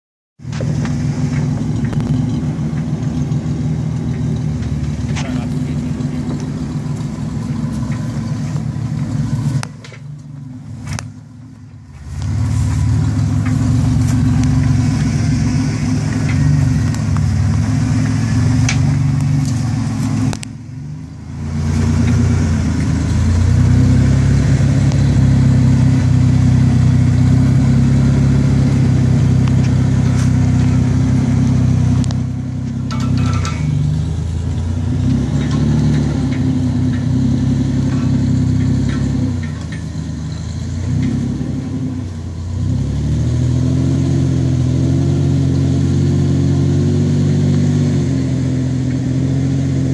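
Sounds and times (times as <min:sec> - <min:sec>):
vehicle engine under throttle: 0:00.4 - 0:49.9.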